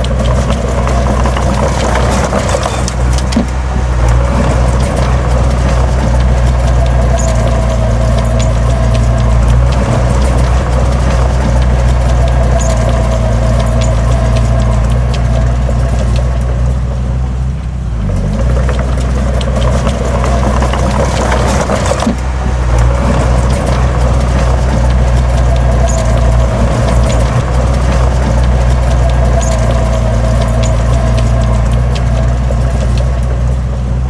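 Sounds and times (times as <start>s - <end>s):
heavy diesel engine running: 0.0s - 34.0s
metallic clanks and rattles: 0.0s - 34.0s.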